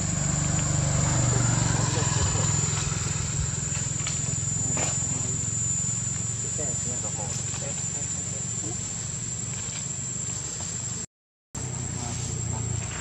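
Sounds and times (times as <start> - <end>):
distant voices: 0.0 - 10.8, 11.6 - 13.0
high-pitched whine: 0.0 - 13.0
low hum: 0.0 - 13.0.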